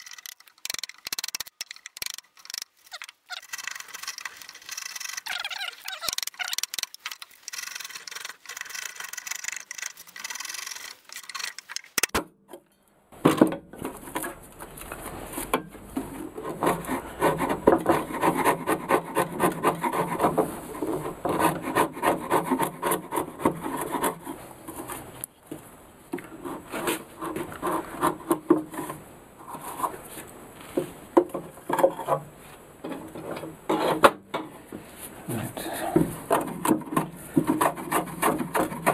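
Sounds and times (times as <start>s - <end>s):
wood chisel scraping: 0.0s - 12.1s, 13.8s - 25.3s, 26.2s - 34.2s, 35.6s - 38.9s.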